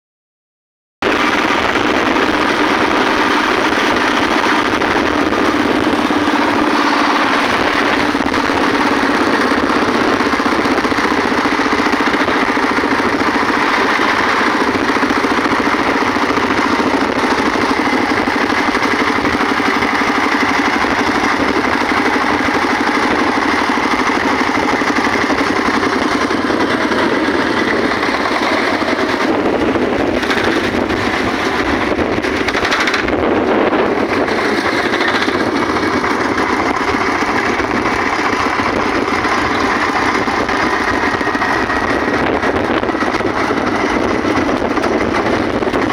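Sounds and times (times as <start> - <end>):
diesel engine chugging: 1.0 - 45.9.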